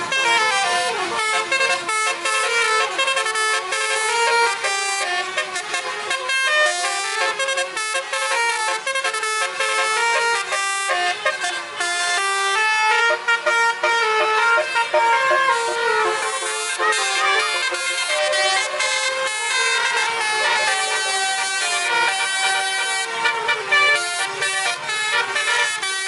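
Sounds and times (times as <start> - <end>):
bus horn playing a tune: 0.0 - 26.0.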